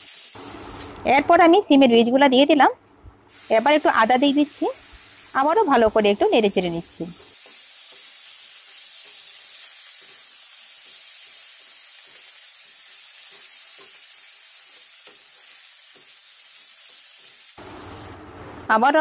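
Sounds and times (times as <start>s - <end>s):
vegetables sizzling in a pan: 0.0s - 1.0s, 3.3s - 18.2s.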